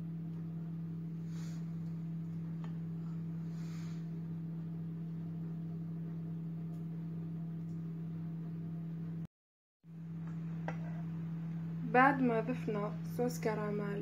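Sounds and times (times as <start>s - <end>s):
steady low hum: 0.0s - 9.3s, 9.9s - 14.0s.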